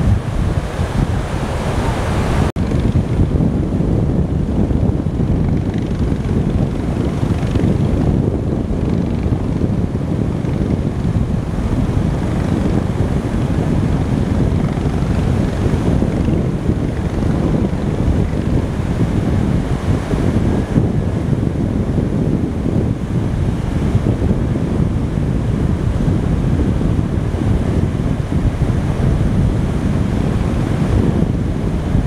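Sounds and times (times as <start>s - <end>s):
surf breaking on shore: 0.0s - 32.0s
wind buffeting microphone: 0.0s - 32.0s.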